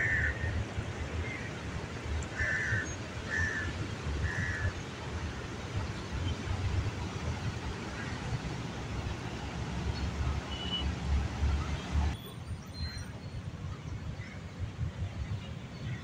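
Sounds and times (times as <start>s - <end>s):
fast-running river: 0.0s - 16.0s.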